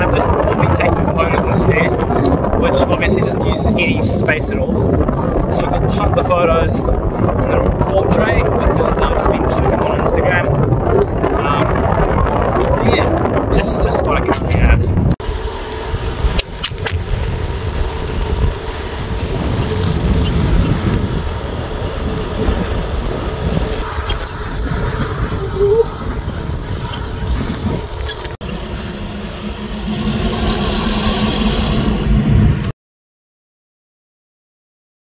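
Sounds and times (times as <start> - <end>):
highway wind and road noise: 0.0 - 32.7.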